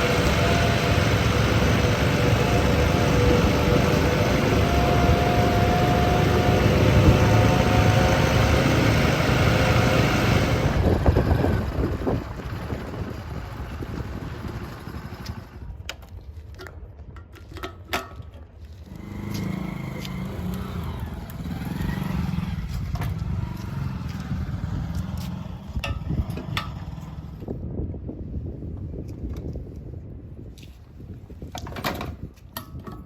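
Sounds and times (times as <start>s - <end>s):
diesel engines of machinery: 0.0s - 16.9s, 18.2s - 27.8s.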